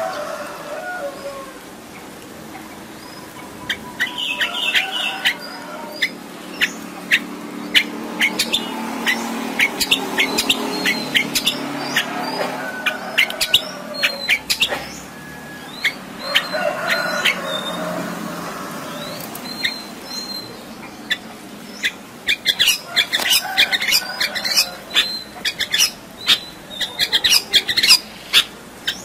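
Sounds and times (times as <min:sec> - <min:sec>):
shrike singing: 0:02.7 - 0:29.0.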